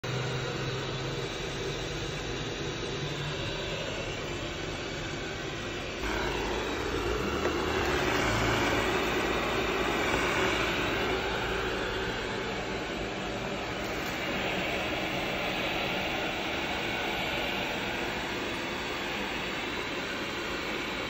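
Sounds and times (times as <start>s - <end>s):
robot vacuum fan rushing: 0.0s - 21.0s.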